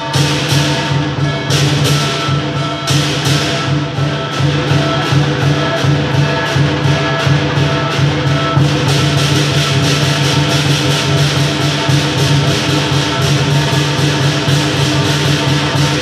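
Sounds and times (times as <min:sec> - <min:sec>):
cymbals clashing: 0:00.0 - 0:16.0
gong ringing: 0:00.0 - 0:16.0
large drum beating: 0:00.0 - 0:16.0.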